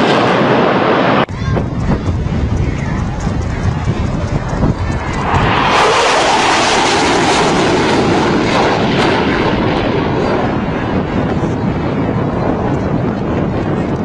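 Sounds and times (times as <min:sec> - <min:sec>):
fighter jet passing: 0:00.0 - 0:14.0.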